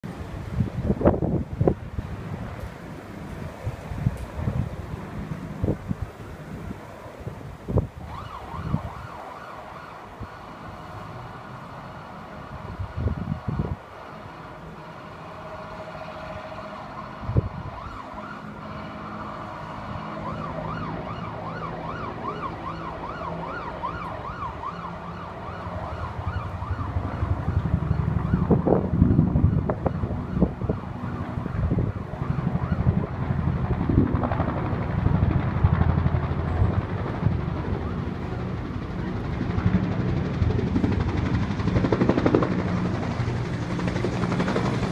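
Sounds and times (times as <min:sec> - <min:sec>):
helicopter rotor pulsing: 0:00.3 - 0:44.9
emergency siren wailing: 0:00.8 - 0:44.9.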